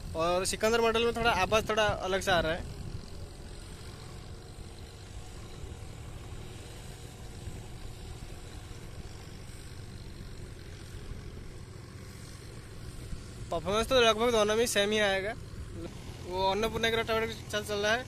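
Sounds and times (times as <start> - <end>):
tractor diesel engine drone: 0.0 - 18.0.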